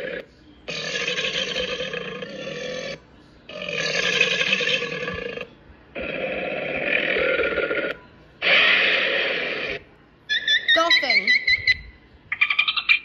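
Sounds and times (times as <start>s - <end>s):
recorded crocodile call from speaker: 0.0s - 11.7s.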